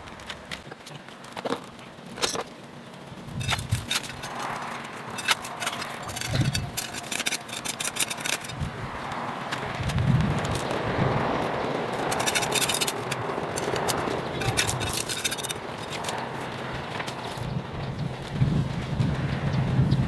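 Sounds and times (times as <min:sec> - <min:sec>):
soil scraping and crackling: 0:00.0 - 0:20.0.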